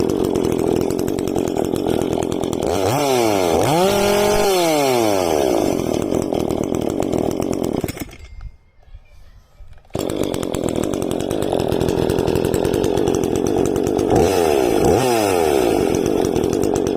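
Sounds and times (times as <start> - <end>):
chainsaw running and revving: 0.0 - 8.2, 9.9 - 16.9.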